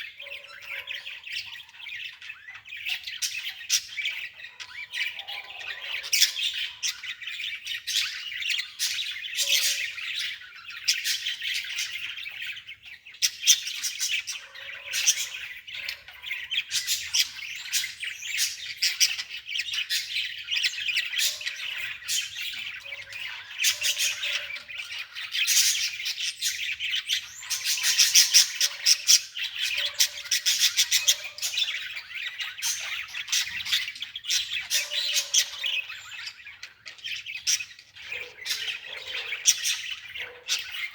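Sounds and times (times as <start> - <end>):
birds chirping and squawking: 0.0 - 40.9.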